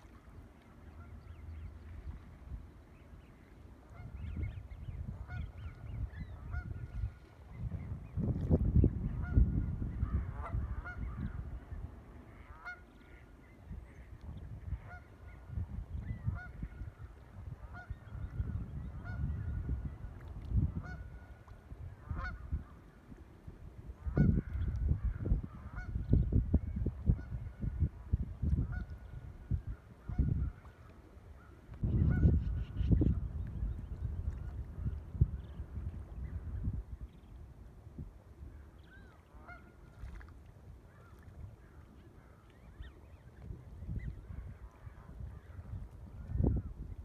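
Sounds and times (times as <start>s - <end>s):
short waterbird calls: 0.0s - 8.1s, 8.9s - 23.0s, 24.0s - 27.9s, 28.5s - 37.4s, 38.4s - 47.0s
wind buffeting microphone: 0.9s - 47.0s.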